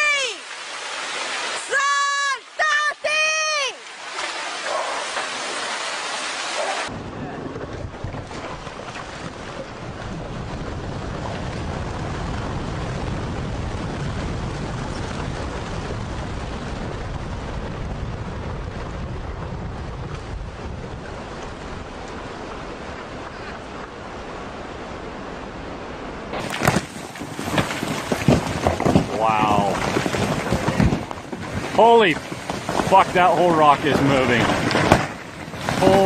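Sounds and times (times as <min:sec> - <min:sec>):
wind buffeting microphone: 0:06.9 - 0:36.0.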